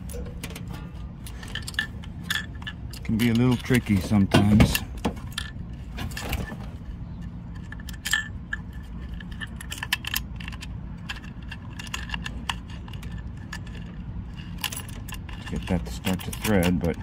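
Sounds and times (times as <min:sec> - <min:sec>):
metal connector clinking on metal box: 0:00.0 - 0:06.6, 0:07.2 - 0:17.0.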